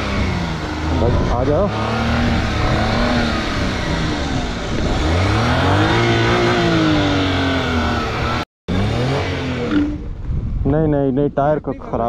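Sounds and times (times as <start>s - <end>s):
car engine revving hard: 0.0s - 10.1s.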